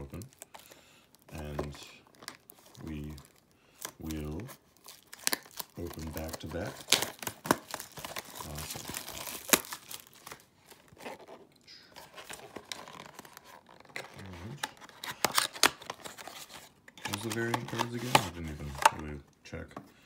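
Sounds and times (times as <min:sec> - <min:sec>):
packaging tearing and crinkling: 0:00.0 - 0:11.4, 0:12.0 - 0:18.9.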